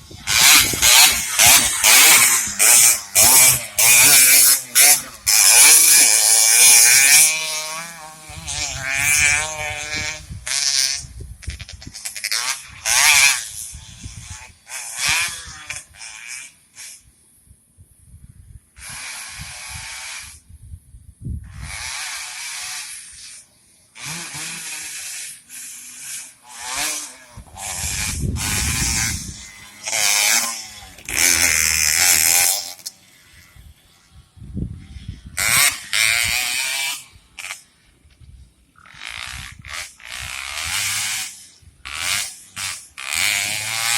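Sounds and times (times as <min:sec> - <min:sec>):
dirt bikes revving past: 0:00.0 - 0:17.0, 0:21.5 - 0:37.9, 0:38.8 - 0:43.9.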